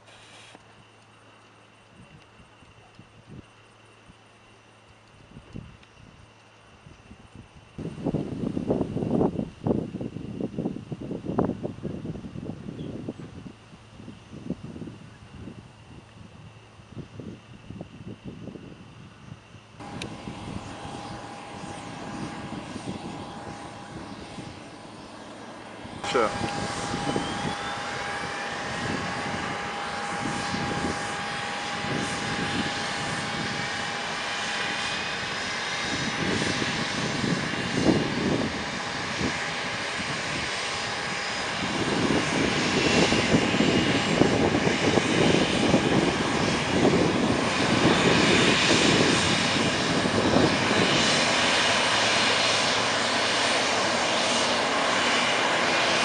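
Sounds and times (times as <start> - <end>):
jet turbines whining: 7.6 - 56.0.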